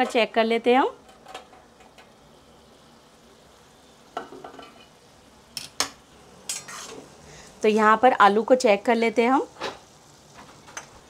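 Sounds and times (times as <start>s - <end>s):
vegetables sizzling faintly in pan: 0.0s - 11.0s.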